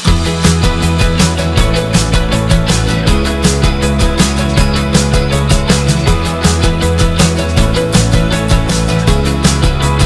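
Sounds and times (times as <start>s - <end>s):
rock music with fast beat: 0.0s - 10.0s.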